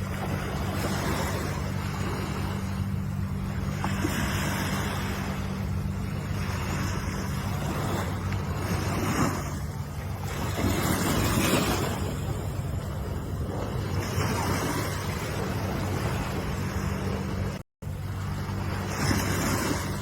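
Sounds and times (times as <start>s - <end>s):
ocean waves washing ashore: 0.0s - 20.0s
steady low hum: 0.0s - 20.0s.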